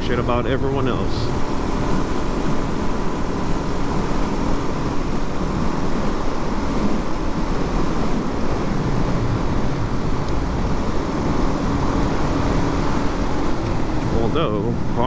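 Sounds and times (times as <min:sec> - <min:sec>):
motorcycle engine running: 0:00.0 - 0:15.0
wind rush of riding: 0:00.0 - 0:15.0.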